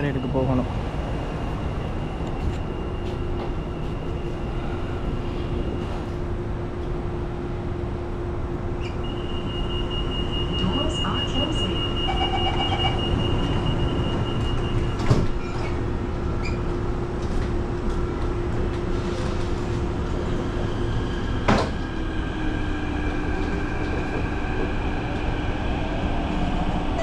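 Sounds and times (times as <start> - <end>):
train whine: 0.0 - 15.2, 16.0 - 27.0
train rumble inside carriage: 0.0 - 27.0.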